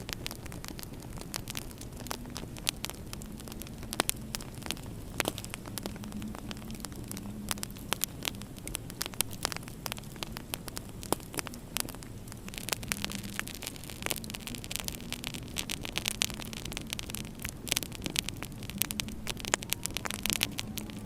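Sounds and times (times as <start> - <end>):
low background rumble: 0.0 - 21.0
wood fire crackling: 0.0 - 21.0.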